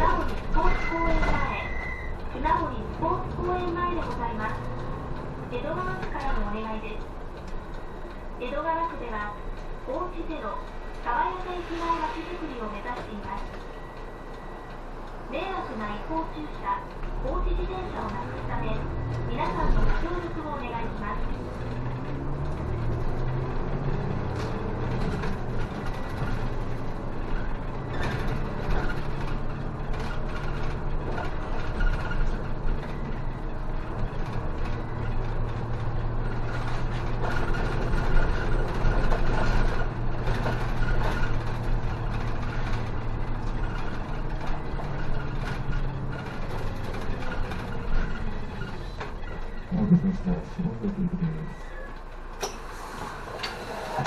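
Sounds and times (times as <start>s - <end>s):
bus body rattling: 0.0s - 54.0s
bus engine humming: 0.0s - 54.0s
road noise: 0.0s - 54.0s.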